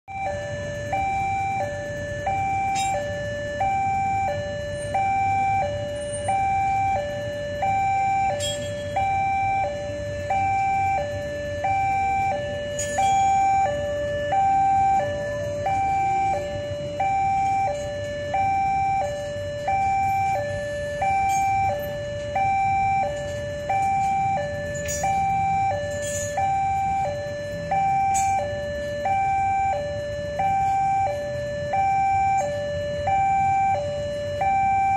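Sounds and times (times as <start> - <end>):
level crossing alarm chime: 0.1 - 34.9.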